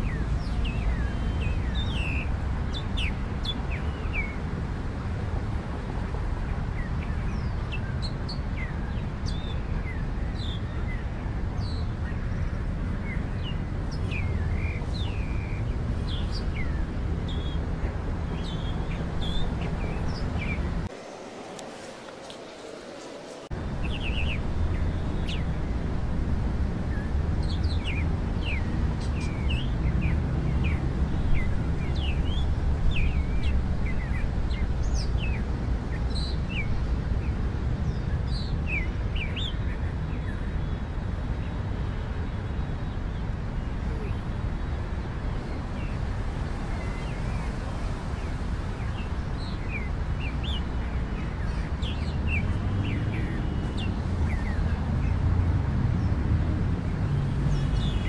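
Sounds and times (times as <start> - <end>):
small birds chirping: 0.0 - 5.0, 6.4 - 25.8, 26.8 - 40.8, 41.4 - 56.2, 56.8 - 58.0.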